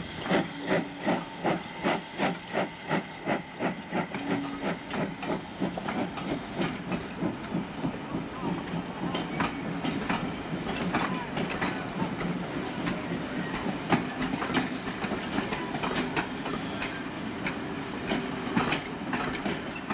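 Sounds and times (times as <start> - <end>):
train rumble: 0.0 - 19.9
train wheels clicking on rail joints: 0.1 - 19.9.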